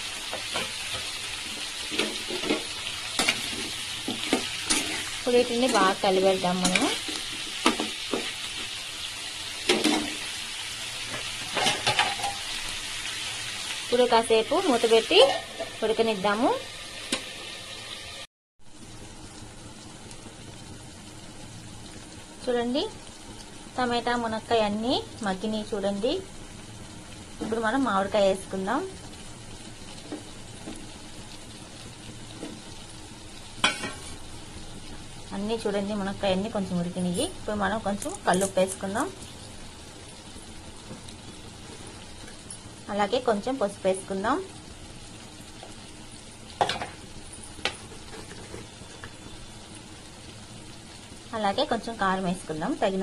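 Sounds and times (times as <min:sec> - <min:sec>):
vegetables sizzling in hot oil: 0:00.0 - 0:53.0.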